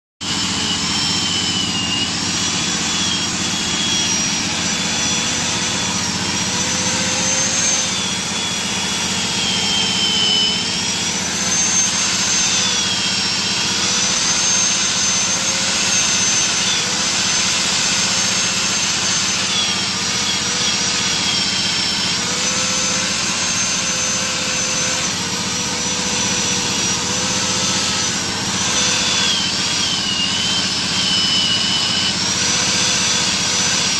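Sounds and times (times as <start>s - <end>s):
power tool whining: 0.2s - 33.9s.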